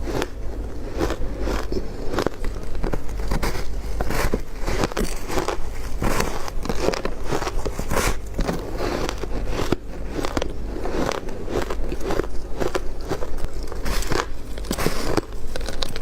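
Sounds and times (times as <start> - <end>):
ice crunching between teeth: 0.0 - 16.0.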